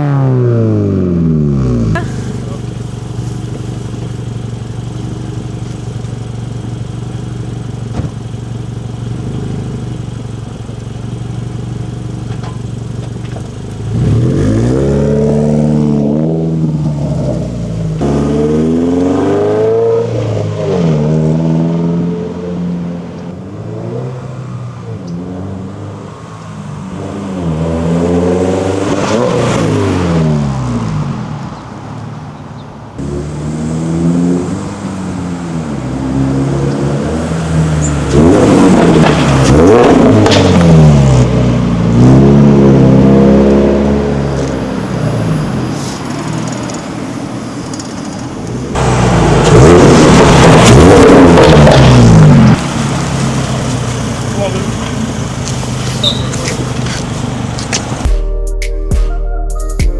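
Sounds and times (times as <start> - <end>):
car engine idling and revving: 0.0 - 58.2.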